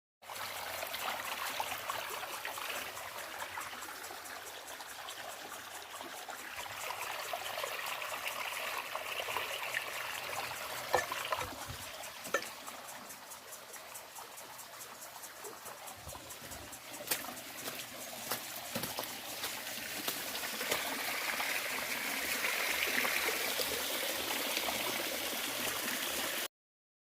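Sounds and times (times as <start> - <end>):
water trickling: 0.2 - 26.5.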